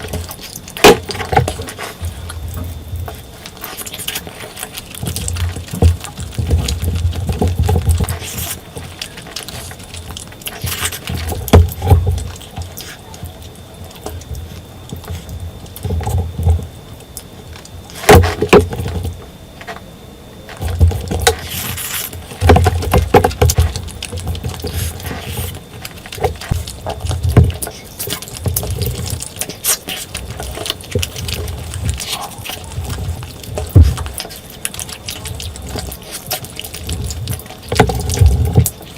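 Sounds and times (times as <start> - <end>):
wet chewing and smacking: 0.0 - 19.2, 20.5 - 38.9.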